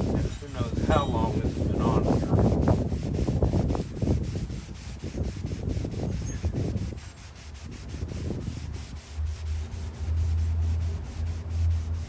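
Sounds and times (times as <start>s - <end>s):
scouring pad scrubbing a sink: 0.0s - 12.0s.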